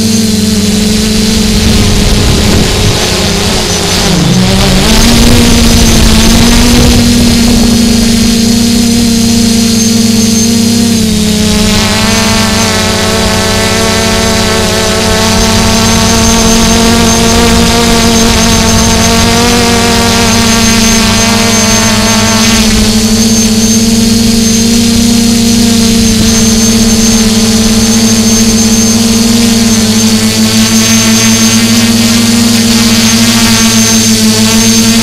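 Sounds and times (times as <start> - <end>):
drone propellers buzzing: 0.0 - 35.0.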